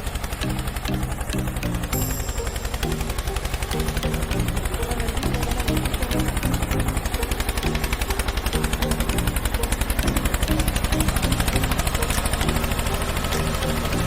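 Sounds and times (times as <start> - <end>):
tractor diesel engine running: 0.0 - 14.0
tune playing: 0.0 - 14.0.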